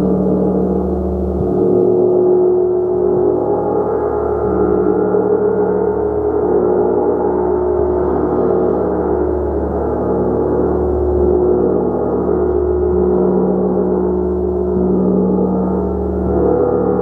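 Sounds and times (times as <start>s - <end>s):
gong ringing: 0.0s - 17.0s.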